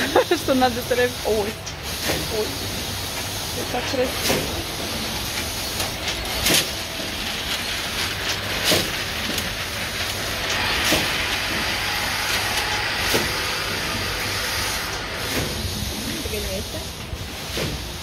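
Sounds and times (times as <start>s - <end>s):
production line machinery running: 0.0s - 18.0s
hissing: 1.2s - 16.7s.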